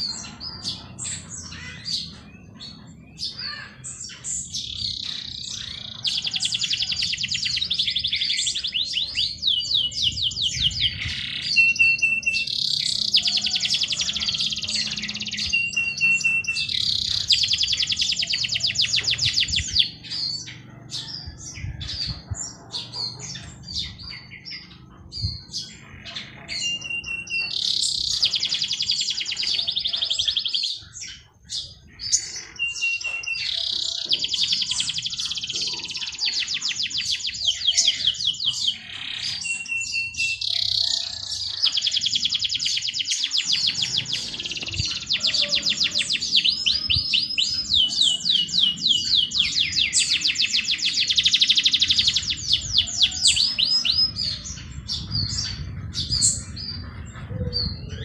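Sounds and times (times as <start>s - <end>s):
bird chirps: 0.0s - 58.0s
songbirds singing trills: 0.0s - 58.0s.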